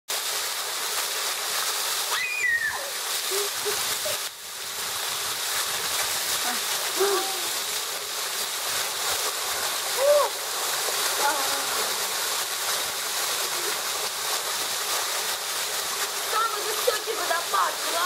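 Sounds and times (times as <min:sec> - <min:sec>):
small waterfall splashing into pool: 0:00.1 - 0:18.0.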